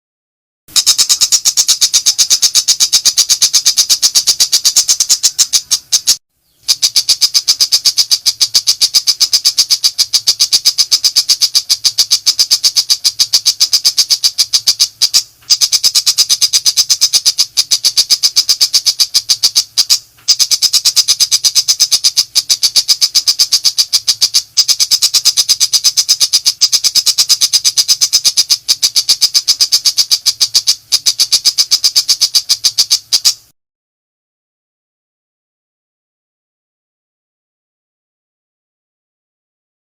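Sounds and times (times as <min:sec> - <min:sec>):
shrike chattering calls: 0:00.7 - 0:33.5.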